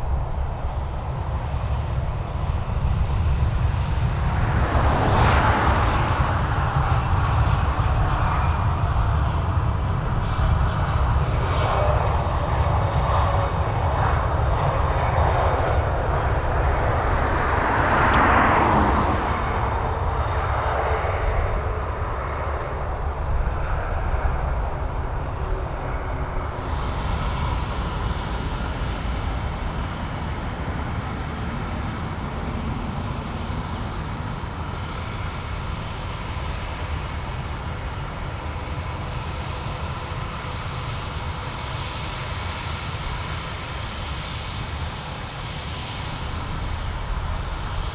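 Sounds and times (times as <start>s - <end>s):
jet engine whine: 0.0s - 47.9s
jet engines rumbling: 0.0s - 47.9s.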